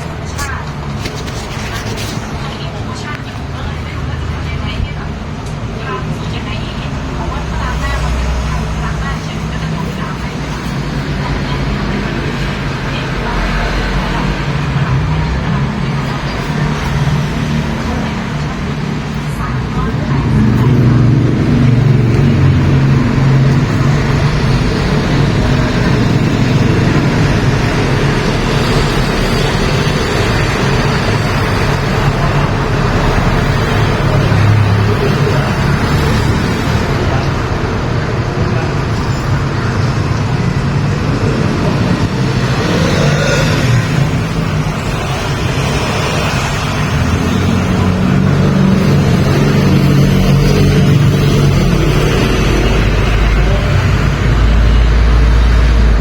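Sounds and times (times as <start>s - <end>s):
motor vehicle running: 0.0s - 56.0s
road and wind noise: 0.0s - 56.0s.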